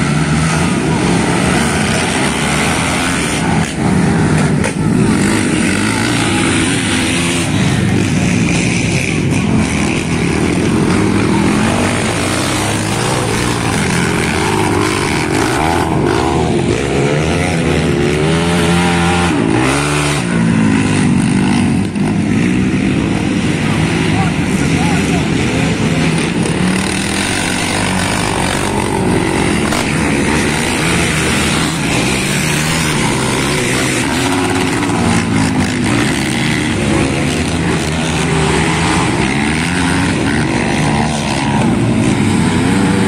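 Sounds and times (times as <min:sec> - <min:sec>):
quad engines revving: 0:00.0 - 0:43.0.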